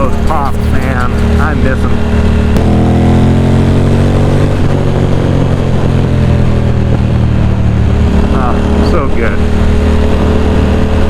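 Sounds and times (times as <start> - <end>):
motorcycle engine decelerating: 0.0 - 11.0.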